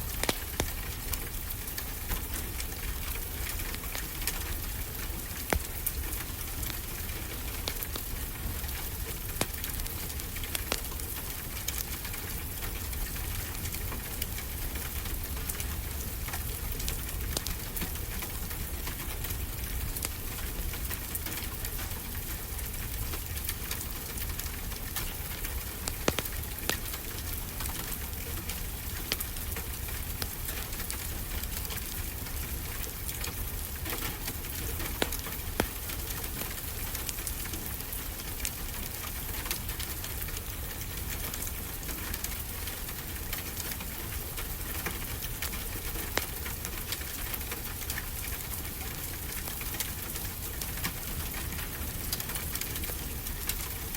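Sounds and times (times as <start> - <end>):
steady rain: 0.0 - 53.9
wood fire crackling: 0.0 - 53.9.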